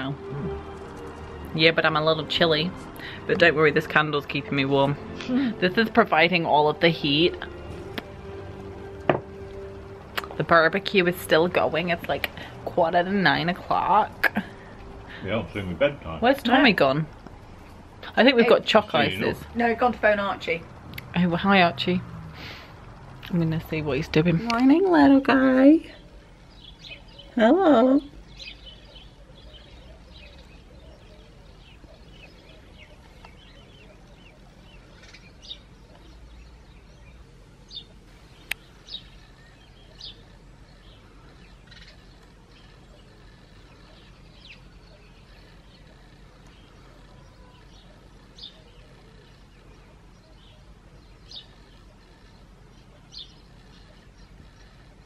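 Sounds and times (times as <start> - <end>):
faint background hum: 0.0 - 55.0
small birds chirping: 0.0 - 55.0.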